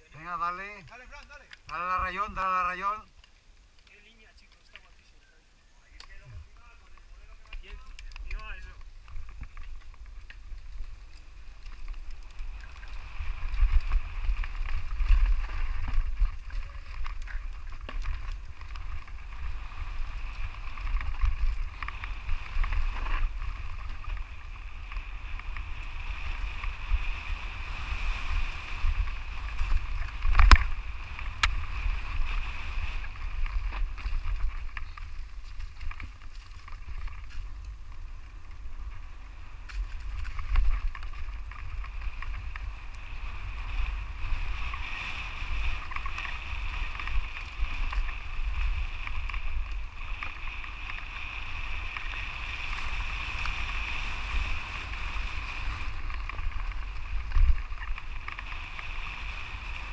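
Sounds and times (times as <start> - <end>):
tyres over rough ground: 0.0 - 59.9
bike knocking and rattling: 6.1 - 59.9
wind on microphone: 6.1 - 59.9.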